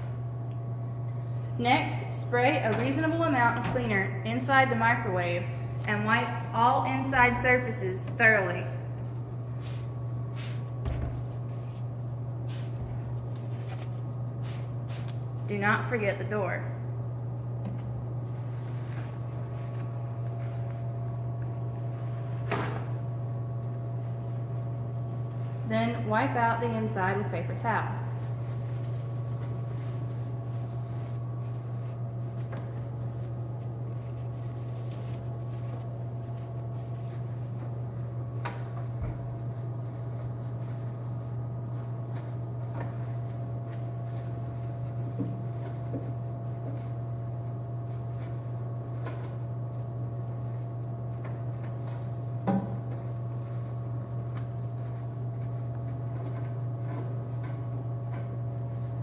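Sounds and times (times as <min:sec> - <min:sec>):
low electrical hum: 0:00.0 - 0:59.0
paper towel wiping microwave: 0:01.6 - 0:16.4, 0:17.3 - 0:59.0.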